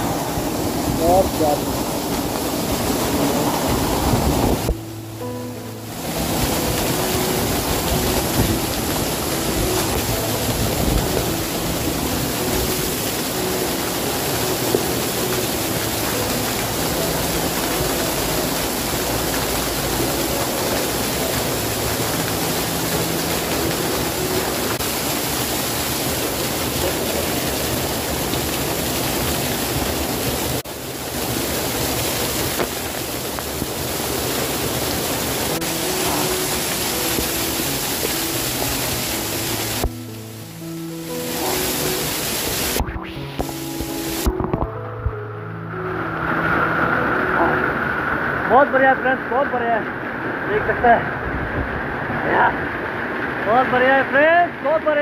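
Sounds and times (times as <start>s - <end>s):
water rushing and splashing: 0.0s - 55.0s.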